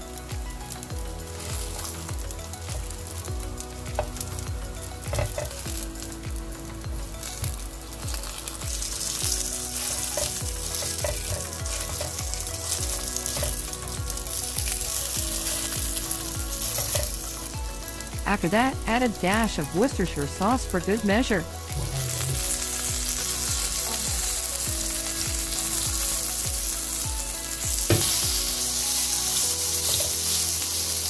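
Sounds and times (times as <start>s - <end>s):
burger patty sizzling: 0.0s - 31.0s.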